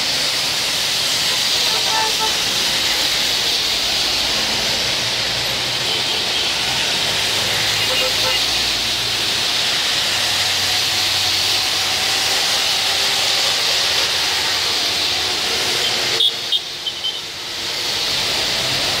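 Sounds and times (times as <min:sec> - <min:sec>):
car tyres swishing on wet road: 0:00.0 - 0:19.0
heavy rain hiss: 0:00.0 - 0:19.0.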